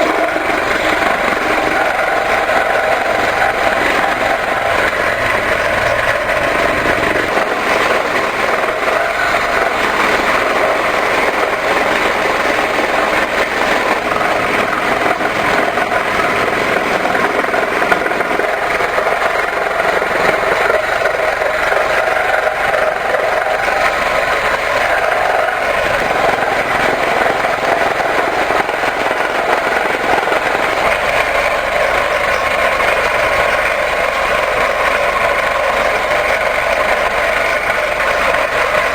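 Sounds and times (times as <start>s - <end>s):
woodworking power tool running: 0.0s - 38.9s.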